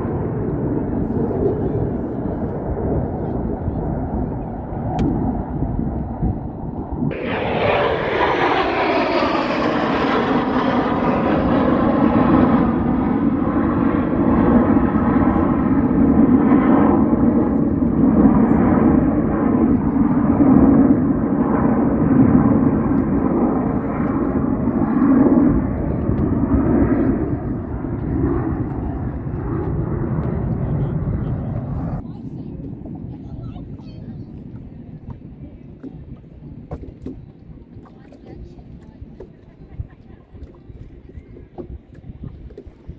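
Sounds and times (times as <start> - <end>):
airplane engine drone: 0.0 - 37.3.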